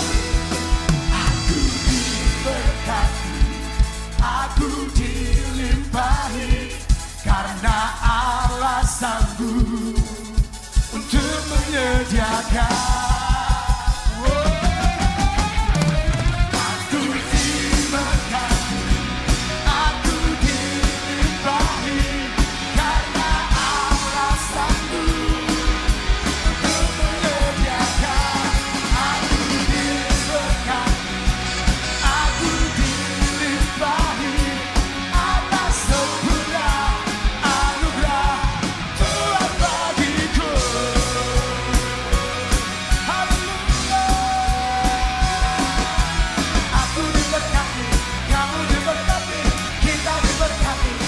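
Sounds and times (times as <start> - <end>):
drum kit driving beat: 0.0 - 51.0
rock band playing: 0.0 - 51.0.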